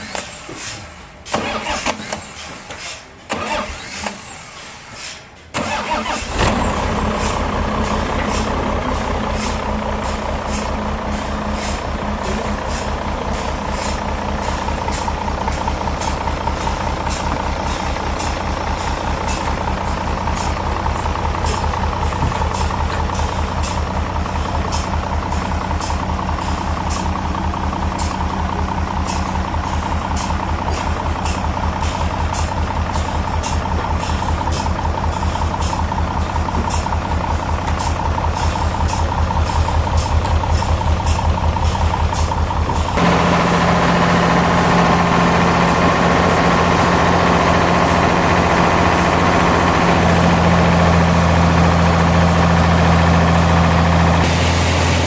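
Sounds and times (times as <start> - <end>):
heavy engine chugging: 5.4 - 55.0.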